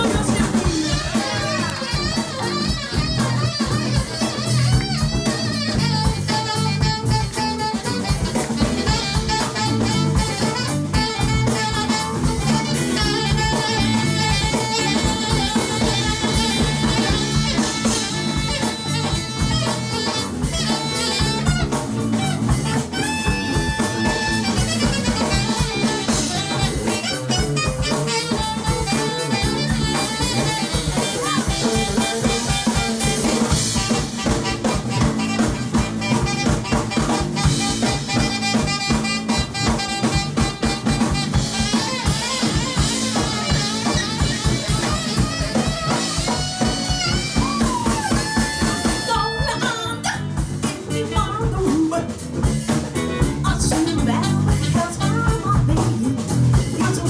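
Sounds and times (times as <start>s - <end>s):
drum rimshots: 0.0s - 57.0s
live jazzy band music: 0.0s - 57.0s.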